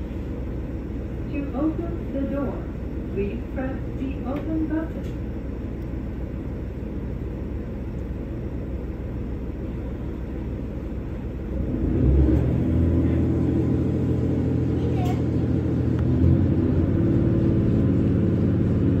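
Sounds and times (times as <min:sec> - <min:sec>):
train engine rumbling: 0:00.0 - 0:19.0.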